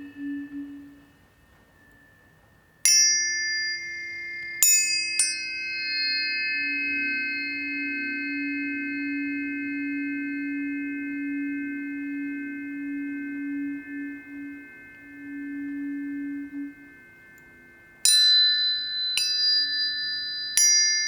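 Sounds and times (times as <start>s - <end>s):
tuning forks ringing: 0.0s - 21.0s.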